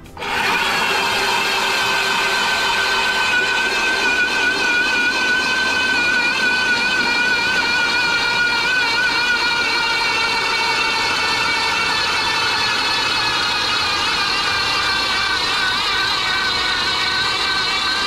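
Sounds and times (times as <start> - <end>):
electric ice auger whining: 0.0 - 18.0.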